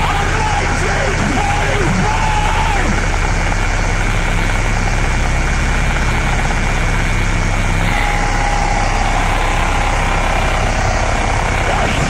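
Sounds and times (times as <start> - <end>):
steady mid-pitched tone: 0.0 - 12.0
throbbing low drone: 0.0 - 12.0.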